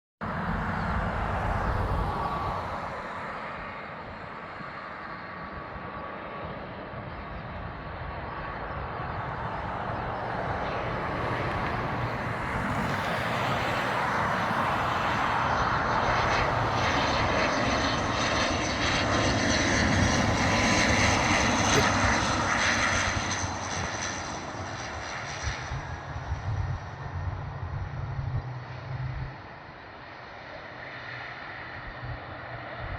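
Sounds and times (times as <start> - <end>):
propeller plane engines droning: 0.2 - 32.9.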